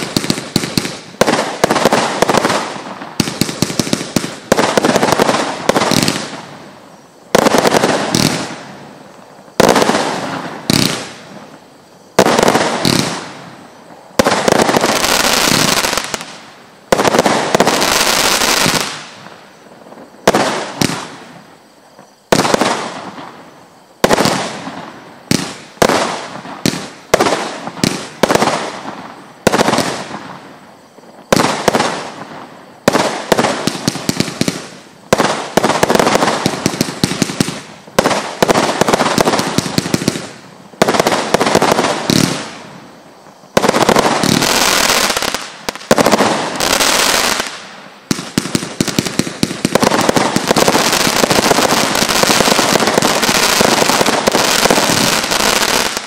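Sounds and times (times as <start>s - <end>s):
firework battery shots and bursts: 0.0s - 56.0s.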